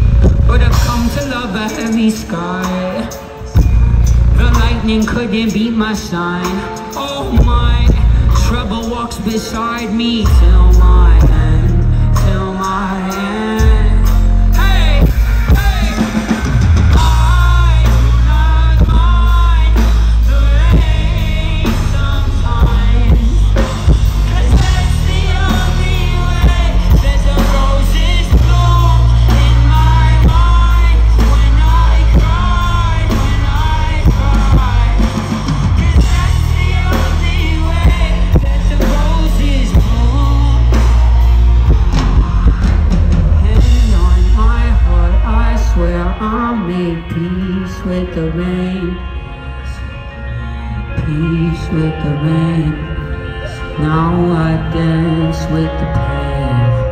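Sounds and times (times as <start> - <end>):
man singing into microphone: 0.0 - 50.1, 50.8 - 56.9
live rock band: 0.0 - 56.9.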